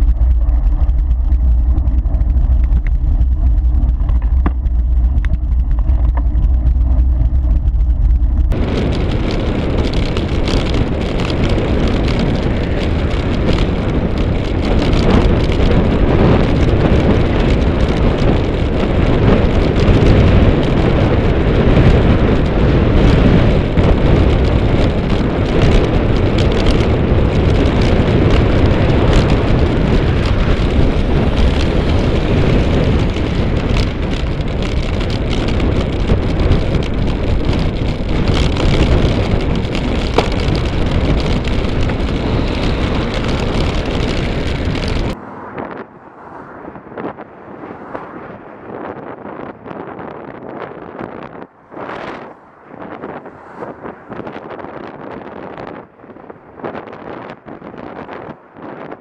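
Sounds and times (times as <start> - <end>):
rushing wind and road noise: 0.0 - 59.0.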